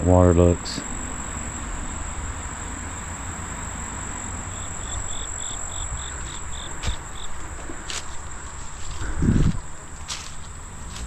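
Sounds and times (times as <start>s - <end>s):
insects shrilling drone: 0.0s - 11.0s.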